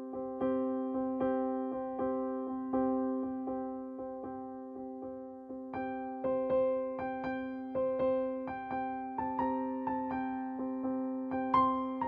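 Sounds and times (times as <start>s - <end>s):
slow electric piano melody: 0.0s - 12.0s.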